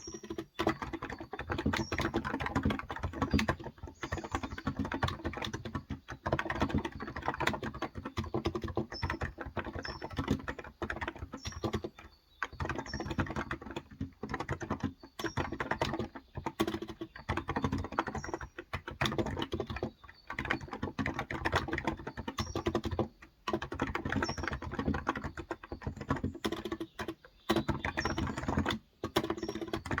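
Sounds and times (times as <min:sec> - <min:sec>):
fast keyboard typing: 0:00.0 - 0:30.0.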